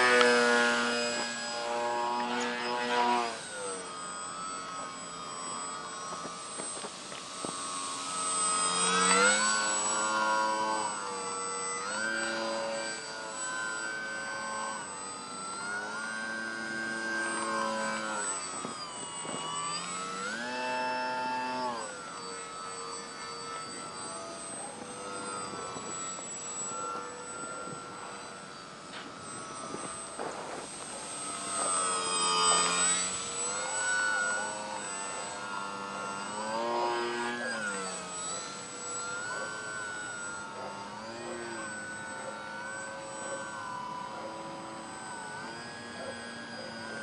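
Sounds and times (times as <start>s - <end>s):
electric motor propeller whining: 0.0s - 47.0s
thin steady high tone: 0.0s - 47.0s.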